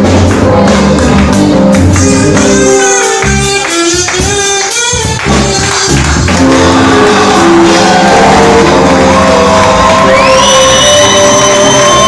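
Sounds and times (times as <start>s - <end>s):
band playing with singing: 0.0s - 12.0s.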